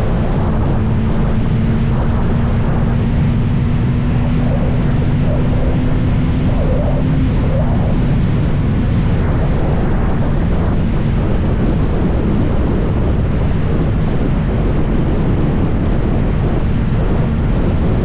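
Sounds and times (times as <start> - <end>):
motorcycle engine running steadily: 0.0 - 18.0
wind buffeting microphone: 0.0 - 18.0.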